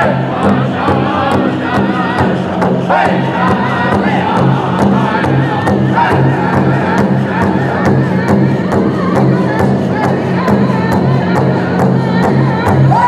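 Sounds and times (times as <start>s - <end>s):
group singing in unison: 0.0s - 13.0s
large bass drum beating: 0.0s - 13.0s.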